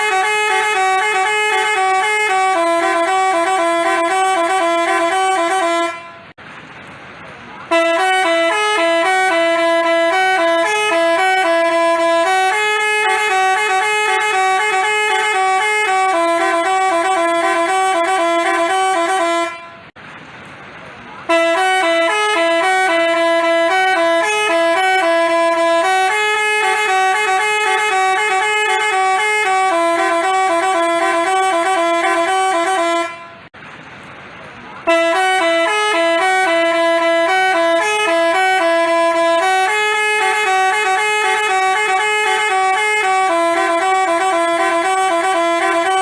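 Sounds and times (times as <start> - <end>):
bus horn melody: 0.0 - 6.4, 7.6 - 20.0, 21.2 - 33.6, 34.8 - 46.0.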